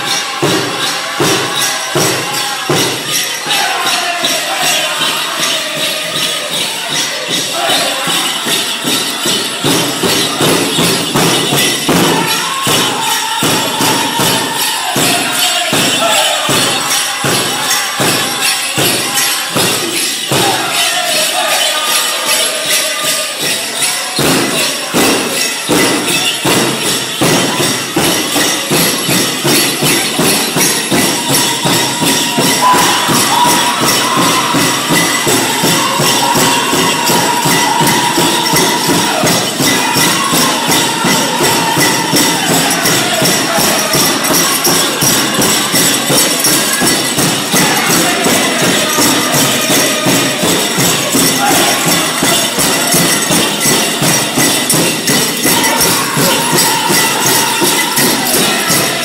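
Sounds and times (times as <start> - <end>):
bells jingling: 0.0 - 59.0
drum group drumbeat: 0.0 - 59.0
group of singers: 0.0 - 59.0.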